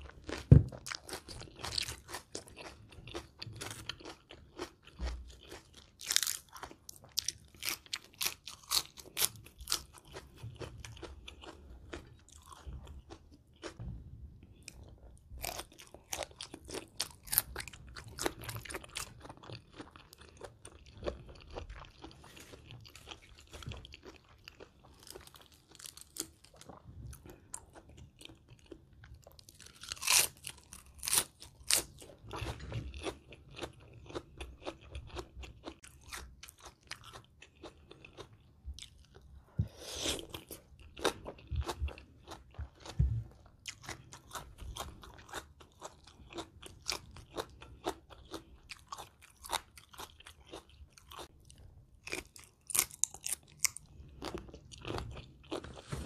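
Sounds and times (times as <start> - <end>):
chewing and crunching: 0.0 - 13.8, 14.4 - 56.0.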